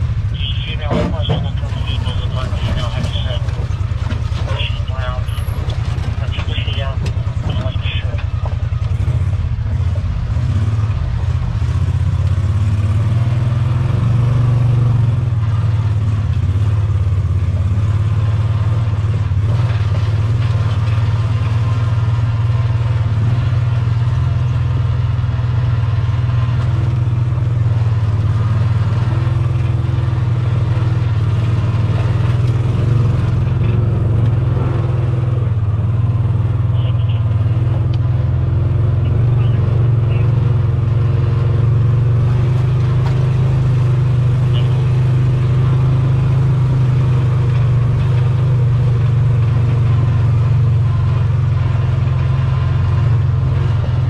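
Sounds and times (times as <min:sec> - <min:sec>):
vehicle engine drone: 0:00.0 - 0:54.0.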